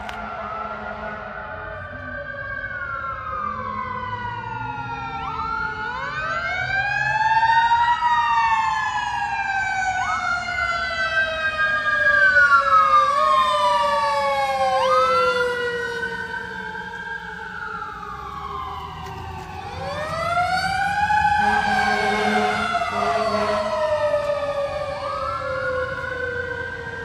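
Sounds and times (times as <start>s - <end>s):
fire truck sirens wailing: 0.0s - 27.0s.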